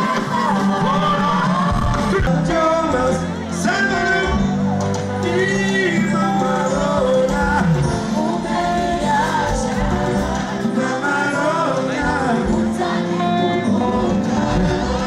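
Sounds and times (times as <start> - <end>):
lead vocal singing: 0.0 - 15.0
live band music: 0.0 - 15.0.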